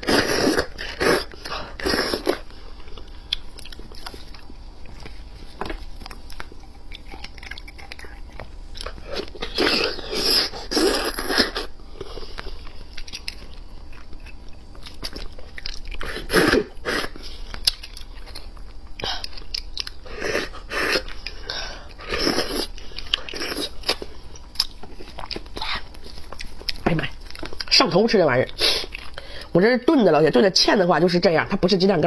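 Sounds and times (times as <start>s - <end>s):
chewing: 0.5s - 16.2s, 17.4s - 27.7s.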